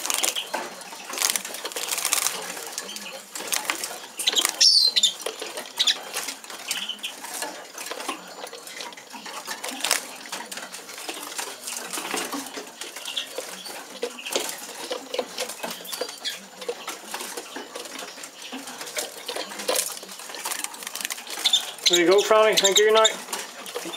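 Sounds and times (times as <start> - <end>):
bird feet on perches and wire: 0.0 - 23.9.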